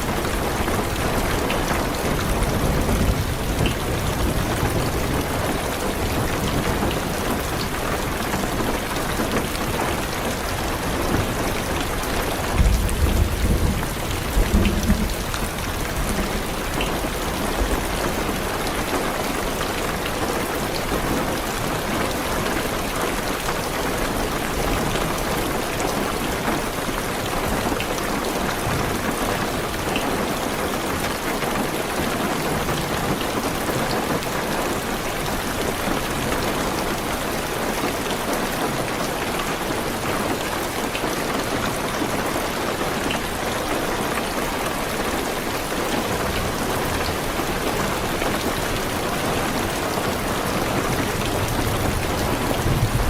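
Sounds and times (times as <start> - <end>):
heavy rain on car roof: 0.0 - 53.0.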